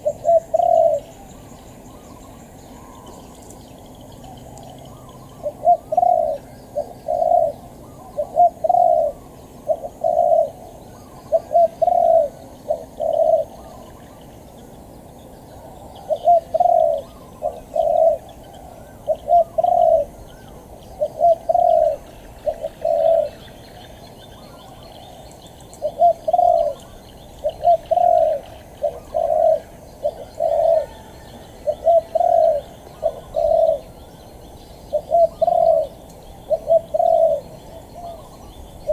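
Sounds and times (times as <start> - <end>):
dove cooing: 0.0 - 1.2, 4.7 - 14.2, 15.6 - 23.5, 24.4 - 34.2, 34.9 - 38.9.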